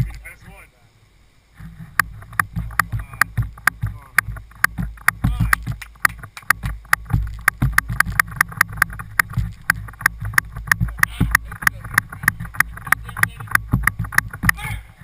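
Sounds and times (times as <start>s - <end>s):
wind rumble on microphone: 1.6s - 15.0s.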